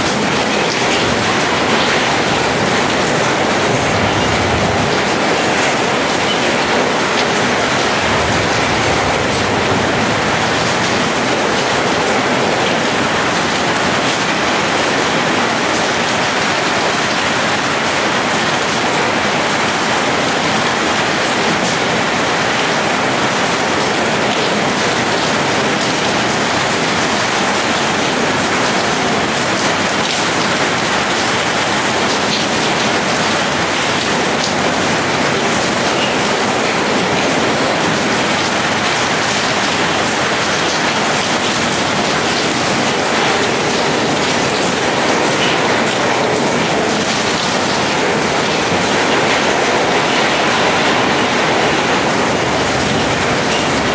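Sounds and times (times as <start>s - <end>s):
heavy rain on metal roof: 0.0s - 53.9s.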